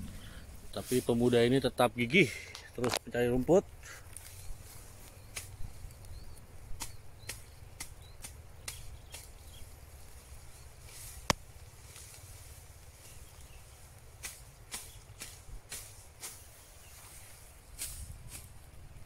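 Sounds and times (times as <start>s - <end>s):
grass snipping and snapping: 2.4s - 3.1s, 4.0s - 18.8s.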